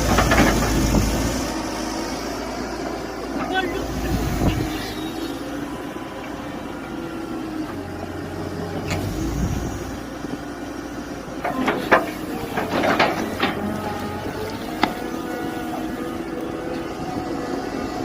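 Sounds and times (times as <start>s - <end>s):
mini excavator engine running: 0.0s - 18.0s.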